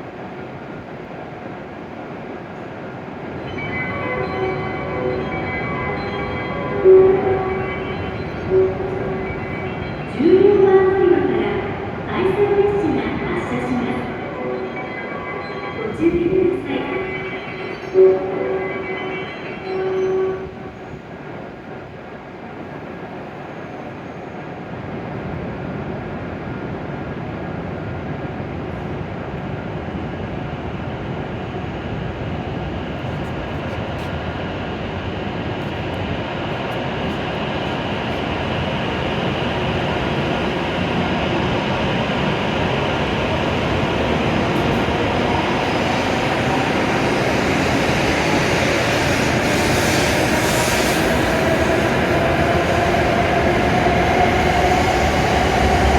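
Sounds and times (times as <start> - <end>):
train rushing noise: 0.0 - 55.9.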